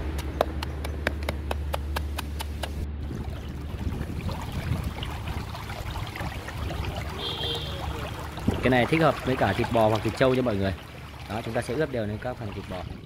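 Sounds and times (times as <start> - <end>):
stream running over pebbles: 1.9 - 13.0.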